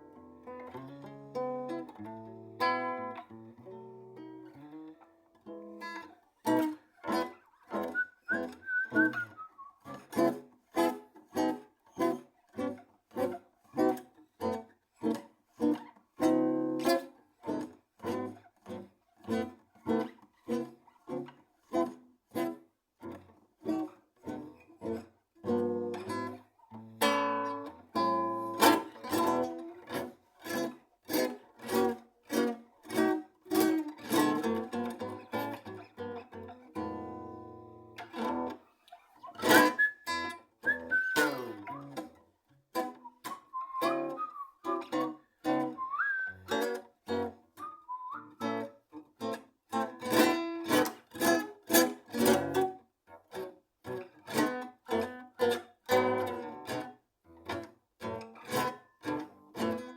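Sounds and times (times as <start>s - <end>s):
acoustic guitar plucking: 0.0s - 20.9s, 23.7s - 59.9s.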